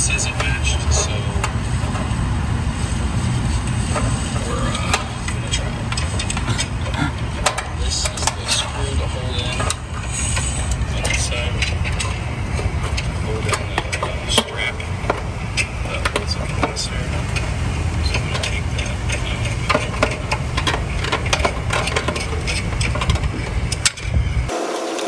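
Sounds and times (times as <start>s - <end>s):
steady low rumble: 0.0s - 24.5s.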